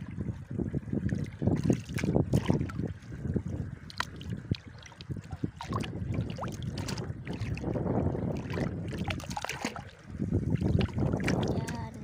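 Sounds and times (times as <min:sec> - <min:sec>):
shallow water splashing: 0:00.0 - 0:12.0
wind rumble on microphone: 0:00.0 - 0:12.0.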